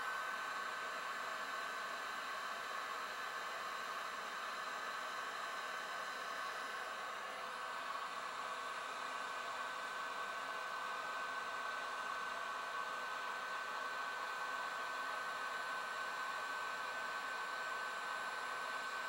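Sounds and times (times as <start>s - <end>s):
heat gun blowing with whine: 0.0s - 19.0s.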